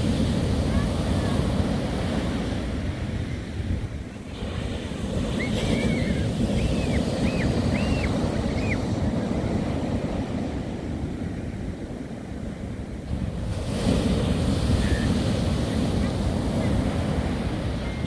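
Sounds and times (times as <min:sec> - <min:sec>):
sea surf rolling onto beach: 0:00.0 - 0:18.0
wind buffeting microphone: 0:00.0 - 0:18.0.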